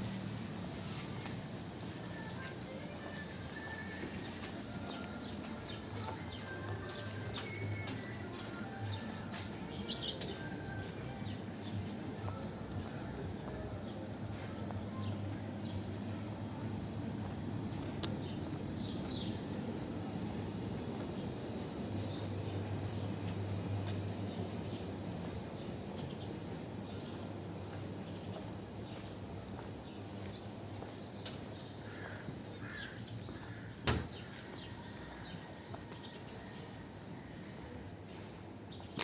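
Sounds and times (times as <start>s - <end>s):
steady background hum: 0.0s - 33.8s.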